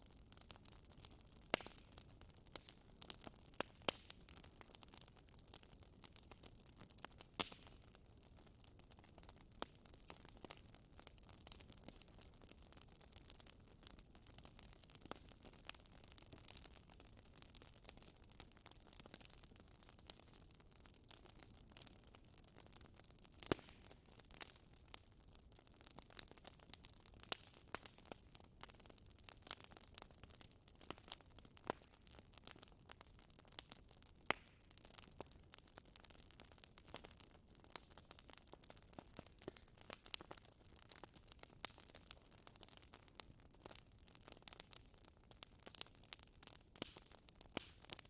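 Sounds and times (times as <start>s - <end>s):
wood fire crackling: 0.0s - 48.0s
fire pops and snaps: 0.3s - 48.0s.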